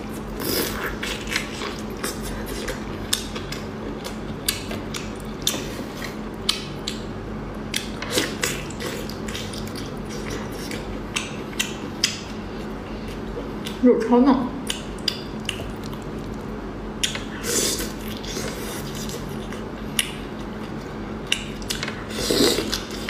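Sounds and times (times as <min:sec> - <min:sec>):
wet sticky chewing: 0:00.0 - 0:13.8, 0:14.6 - 0:23.0.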